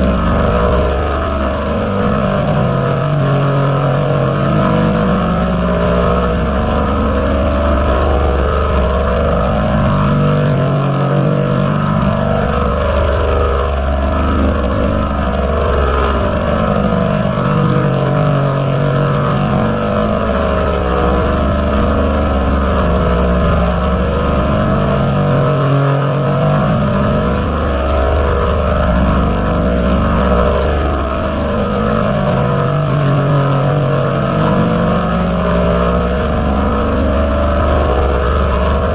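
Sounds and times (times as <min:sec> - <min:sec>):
distorted buzzing drone: 0:00.0 - 0:38.9.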